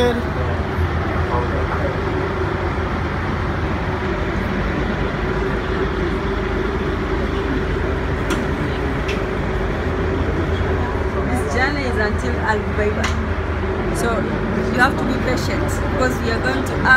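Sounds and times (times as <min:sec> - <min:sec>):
boat engine rumbling: 0:00.0 - 0:16.9.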